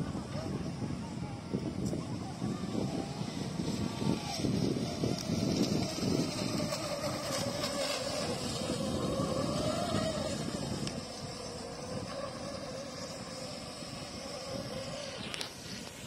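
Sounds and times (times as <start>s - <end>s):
model boat motor whining: 0.0s - 16.0s.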